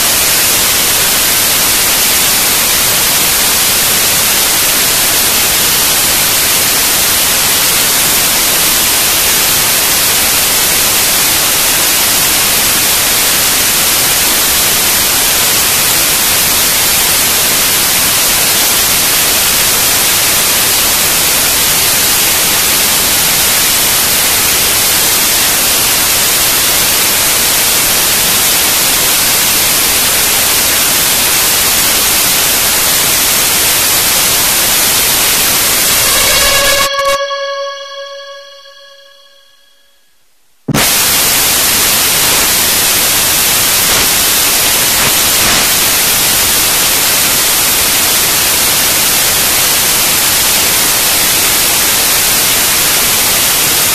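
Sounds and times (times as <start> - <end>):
loud static hiss: 0.0 - 39.6, 40.2 - 53.9.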